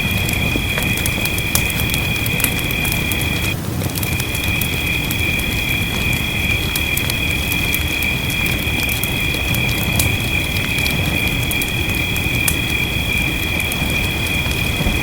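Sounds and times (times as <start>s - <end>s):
low rush of rain: 0.0s - 15.0s
shrill chorus of frogs or insects: 0.0s - 15.0s
wood fire crackling and popping: 0.0s - 15.0s.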